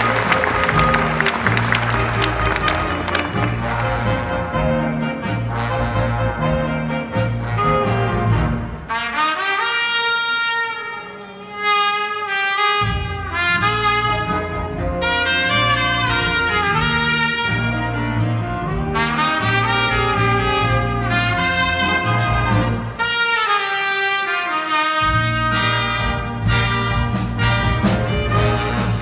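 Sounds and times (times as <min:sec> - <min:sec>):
big band backing: 0:00.0 - 0:29.0
solo trumpet melody: 0:00.0 - 0:29.0.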